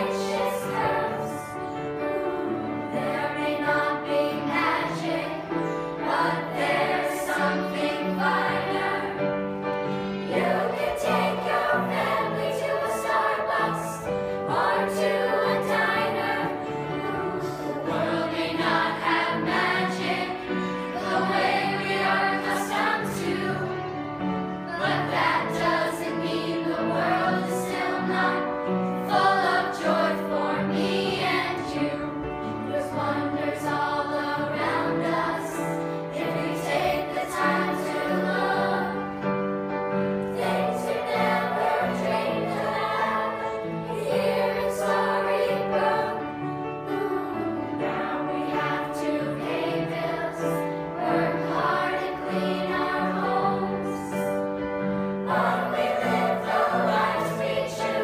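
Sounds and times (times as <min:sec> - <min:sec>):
children singing in chorus: 0:00.0 - 0:23.8, 0:24.7 - 0:39.3, 0:40.3 - 0:54.4, 0:55.1 - 0:58.0.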